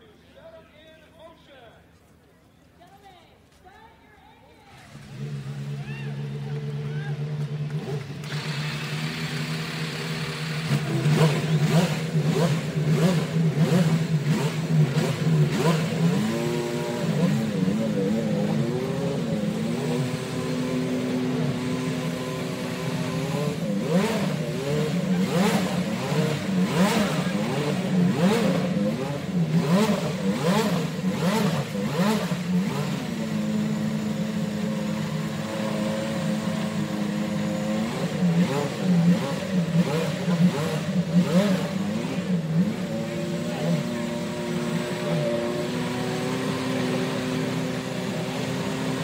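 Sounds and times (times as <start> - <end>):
race car engines revving: 4.7 - 49.0.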